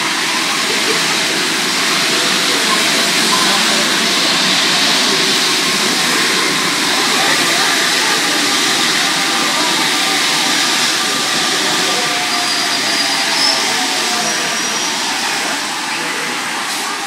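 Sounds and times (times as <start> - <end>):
traction motor whine: 0.0 - 17.0
train running noise: 0.0 - 17.0.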